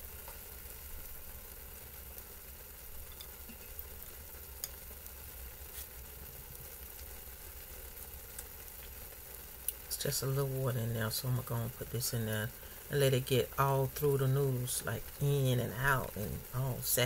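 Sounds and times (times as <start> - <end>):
noodles simmering in a pan: 0.0 - 17.0.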